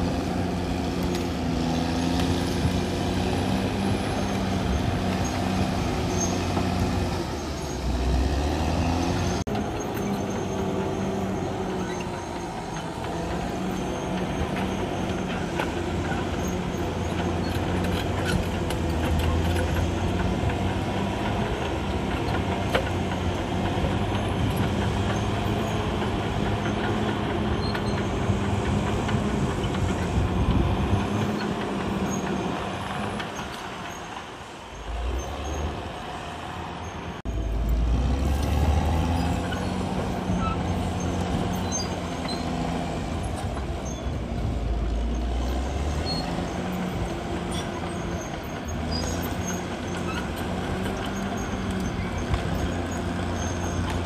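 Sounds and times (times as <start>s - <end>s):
bulldozer diesel engine running hard: 0.0s - 54.0s.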